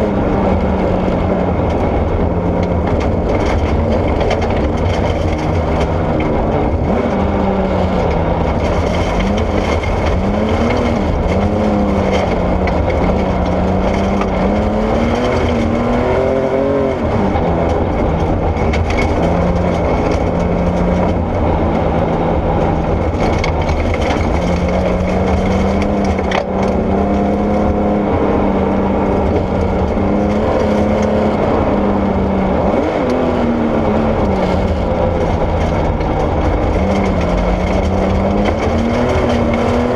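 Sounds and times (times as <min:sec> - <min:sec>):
car engine revving: 0:00.0 - 0:39.9
tyres rumbling on gravel: 0:00.0 - 0:39.9.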